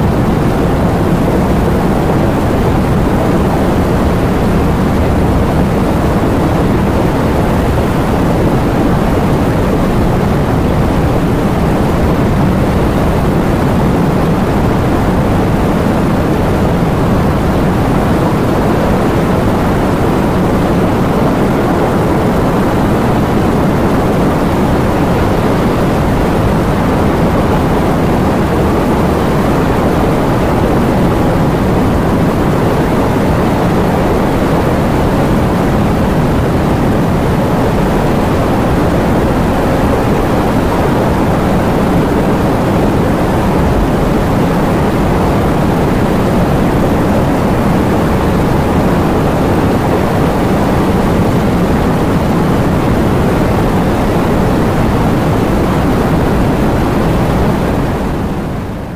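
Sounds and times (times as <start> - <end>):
heavy rain and wind roar: 0.0 - 58.9.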